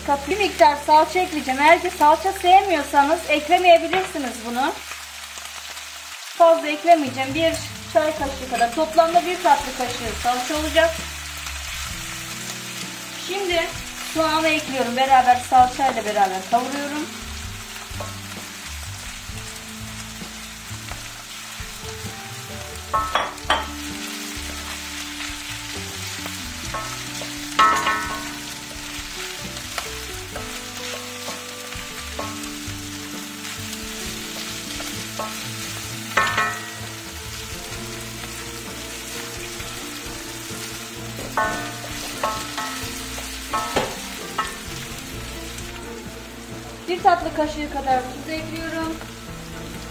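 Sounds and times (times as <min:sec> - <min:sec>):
meat and onion sizzling: 0:00.0 - 0:49.9.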